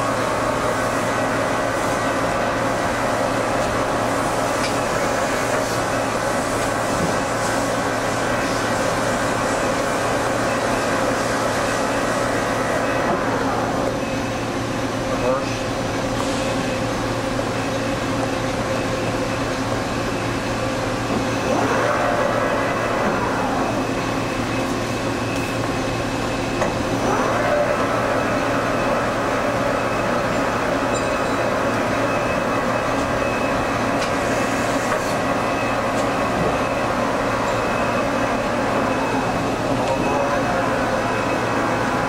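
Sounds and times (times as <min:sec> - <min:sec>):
rising machine whine: 0:00.0 - 0:14.5, 0:16.6 - 0:42.0
machine hum: 0:00.0 - 0:42.0.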